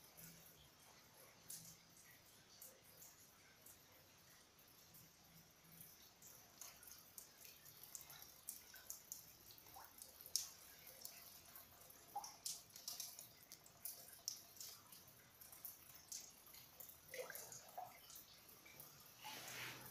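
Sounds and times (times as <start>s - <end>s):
water drips: 0.0s - 19.9s
small ticks: 0.1s - 19.0s.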